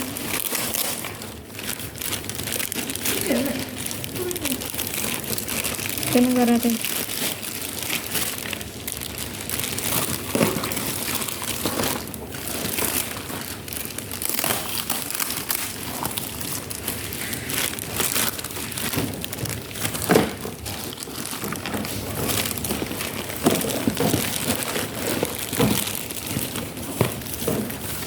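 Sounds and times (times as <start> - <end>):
packaging crinkling and rustling: 0.0 - 28.0.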